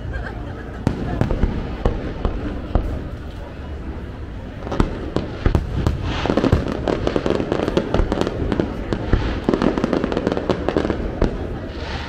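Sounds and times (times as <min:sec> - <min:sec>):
fireworks bangs and crackles: 0:00.1 - 0:12.0.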